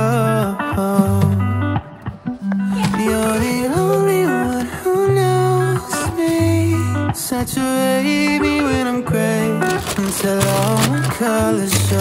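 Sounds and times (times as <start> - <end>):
song with hummed vocal melody: 0.0 - 12.0.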